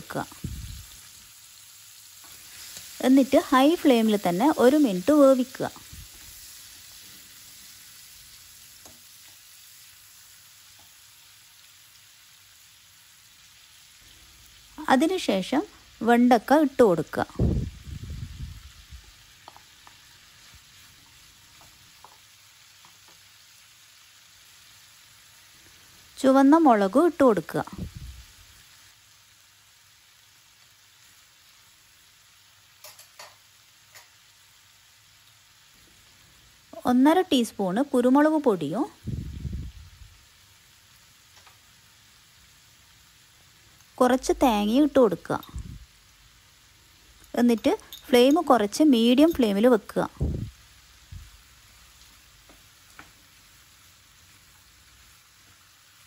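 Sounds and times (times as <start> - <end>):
prawns sizzling in oil: 0.0 - 56.0.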